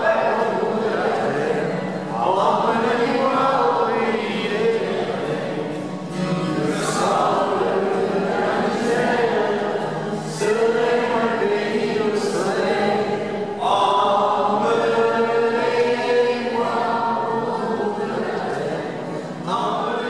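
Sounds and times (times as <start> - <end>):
acoustic guitar: 0.0 - 20.0
man singing: 0.0 - 20.0.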